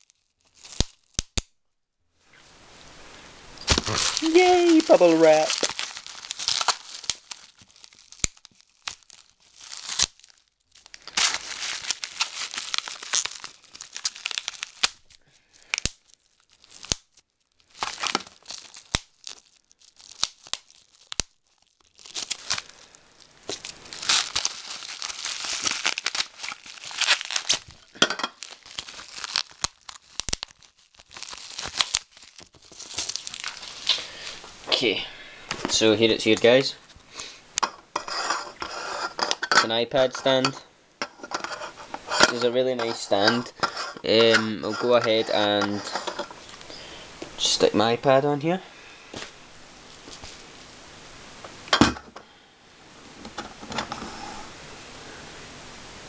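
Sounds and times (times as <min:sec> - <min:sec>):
plastic packaging crinkling: 0:00.0 - 0:01.4, 0:03.6 - 0:34.8, 0:35.5 - 0:48.5.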